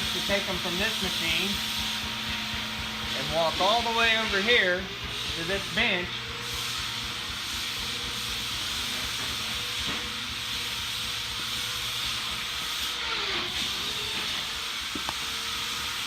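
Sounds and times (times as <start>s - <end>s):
machinery hiss: 0.0s - 16.0s.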